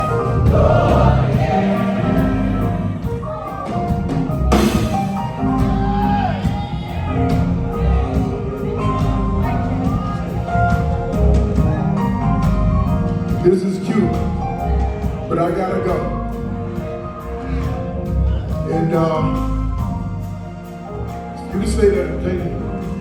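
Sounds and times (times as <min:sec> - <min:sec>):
drum kit: 0:00.0 - 0:23.0
keyboard chords: 0:00.0 - 0:23.0.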